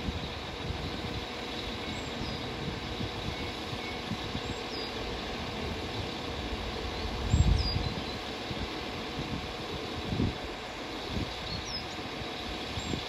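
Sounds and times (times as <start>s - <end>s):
diesel train engines idling: 0.0s - 13.0s.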